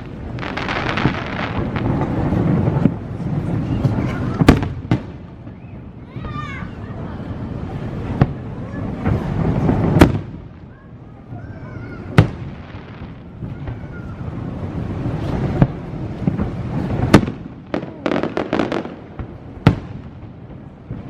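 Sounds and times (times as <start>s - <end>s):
fireworks bangs and pops: 0.0s - 21.0s.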